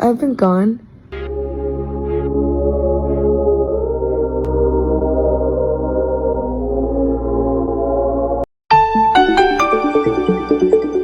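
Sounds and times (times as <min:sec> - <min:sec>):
ambient drone music: 0:01.1 - 0:11.0.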